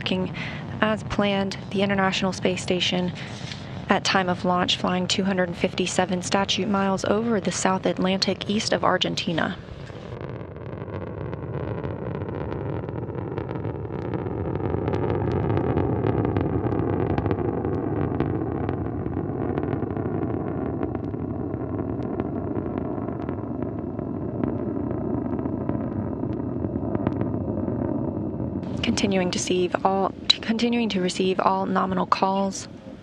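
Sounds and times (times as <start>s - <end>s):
rocket engine roar with crackling: 0.0s - 33.0s.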